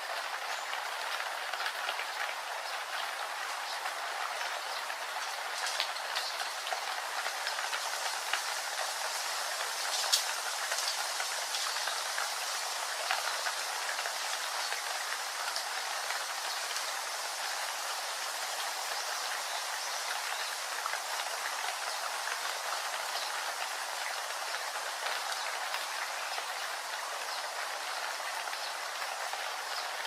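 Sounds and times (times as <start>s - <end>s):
steady rainfall: 0.0s - 30.0s.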